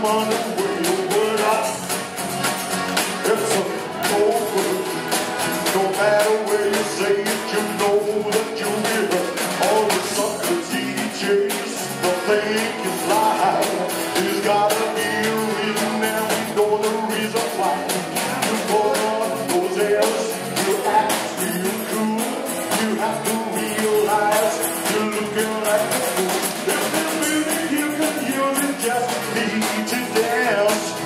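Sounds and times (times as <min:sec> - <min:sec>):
man singing into a microphone: 0:00.0 - 0:02.0, 0:03.1 - 0:31.0
accordion: 0:00.0 - 0:31.0
drums: 0:00.0 - 0:31.0.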